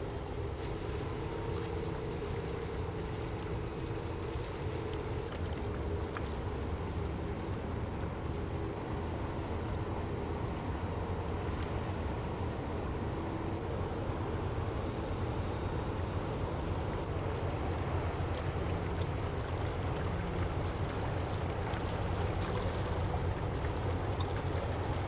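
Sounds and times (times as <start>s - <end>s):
boat engines rumbling: 0.0s - 25.0s
wind: 0.0s - 25.0s
water wash: 0.6s - 12.8s, 17.0s - 25.0s.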